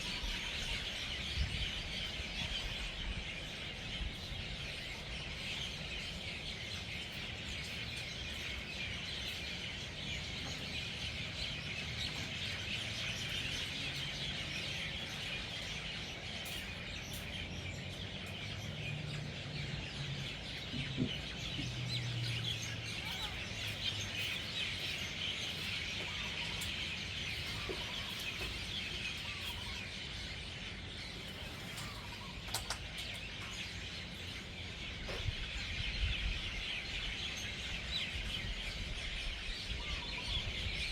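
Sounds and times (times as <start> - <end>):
flock of birds chattering: 0.0 - 40.9.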